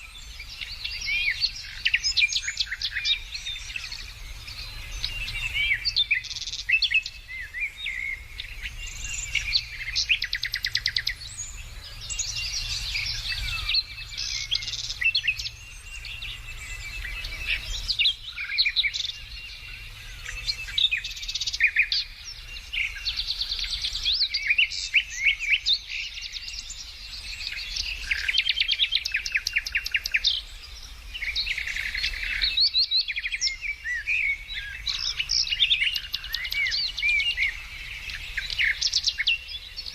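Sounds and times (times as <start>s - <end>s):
birds singing and calling: 0.0s - 39.9s.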